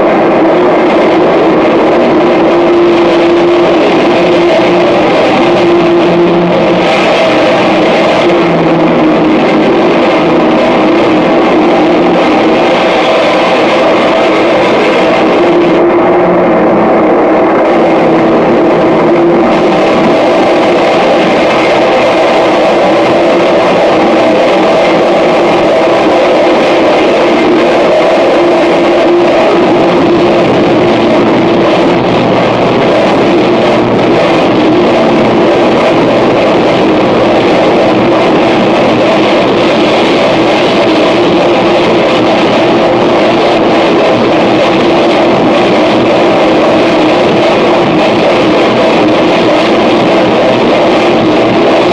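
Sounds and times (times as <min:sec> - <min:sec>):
distorted noise wall: 0:00.0 - 0:51.9
droning tones: 0:00.0 - 0:51.9.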